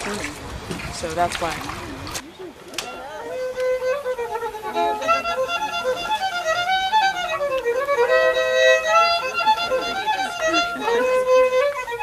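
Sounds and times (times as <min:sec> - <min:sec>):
fiddle melody: 0:01.9 - 0:12.0.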